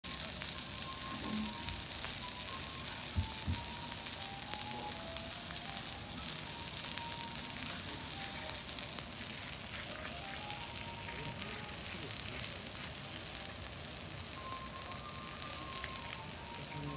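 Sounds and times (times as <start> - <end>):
beef sizzling on a griddle: 0.0 - 16.9.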